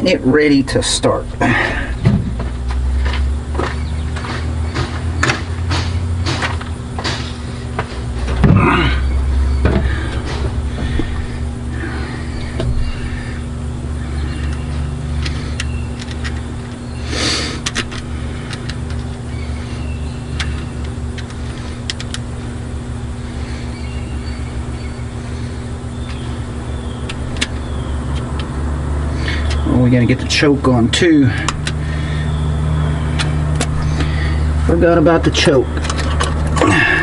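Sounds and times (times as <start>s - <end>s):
low mechanical drone: 0.0s - 37.0s.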